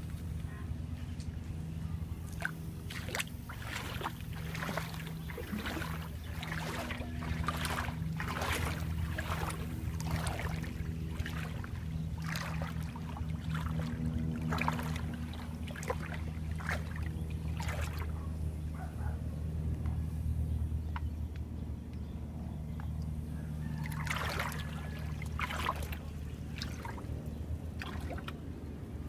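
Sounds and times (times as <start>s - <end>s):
water lapping against hulls: 0.0s - 21.2s, 22.7s - 29.0s
steady low hum: 0.0s - 29.0s.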